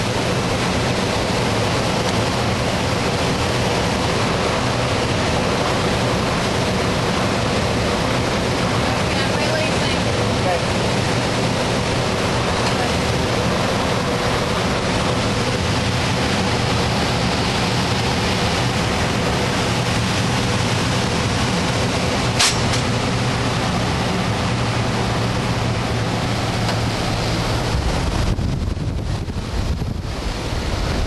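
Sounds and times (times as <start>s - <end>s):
airflow rushing past cockpit: 0.0s - 31.0s
wind buffeting microphone: 0.0s - 31.0s.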